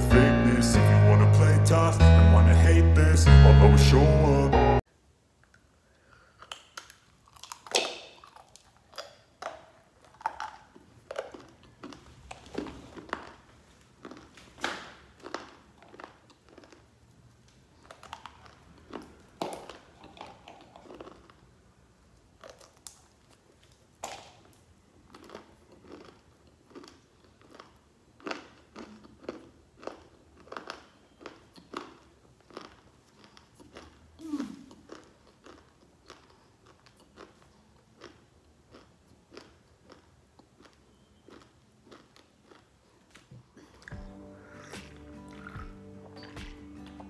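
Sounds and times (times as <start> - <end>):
crunchy biting and chewing: 6.2 - 47.0.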